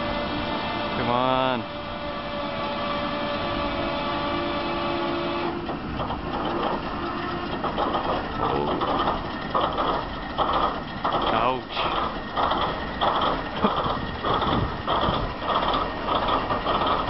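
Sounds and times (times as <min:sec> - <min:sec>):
diesel engine starting up: 0:00.0 - 0:17.0.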